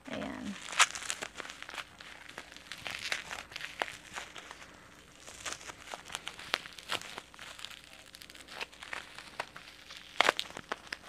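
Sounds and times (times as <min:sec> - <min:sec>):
bubble wrap crinkling and crackling: 0:00.1 - 0:11.0.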